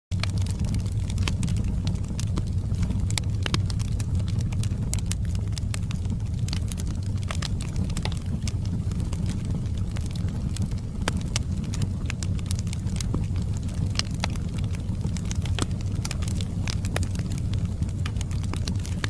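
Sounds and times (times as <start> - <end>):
fire crackling and popping: 0.1 - 19.0
fire low rumble: 0.1 - 19.0.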